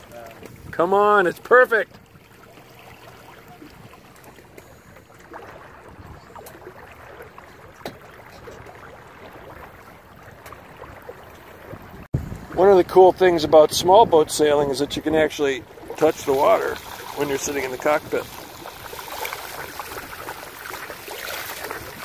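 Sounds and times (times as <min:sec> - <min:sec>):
water lapping along boat hull: 0:00.0 - 0:22.0.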